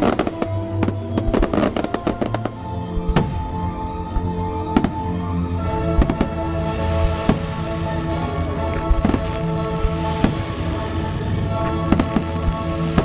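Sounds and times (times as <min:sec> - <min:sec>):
fireworks bangs: 0:00.0 - 0:07.9, 0:08.7 - 0:11.0, 0:11.6 - 0:13.0
music: 0:00.0 - 0:13.0.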